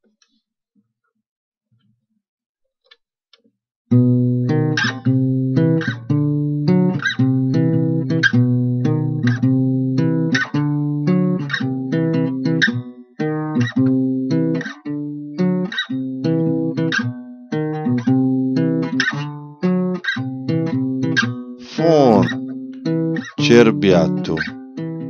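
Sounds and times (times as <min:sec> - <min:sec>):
guitar strumming chords: 0:03.9 - 0:25.0.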